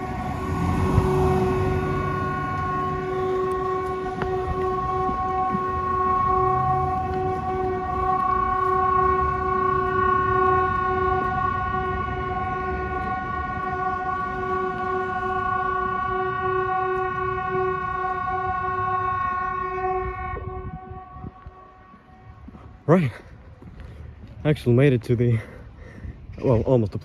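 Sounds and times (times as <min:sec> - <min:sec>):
civil defence siren steady tone: 0:00.0 - 0:24.4.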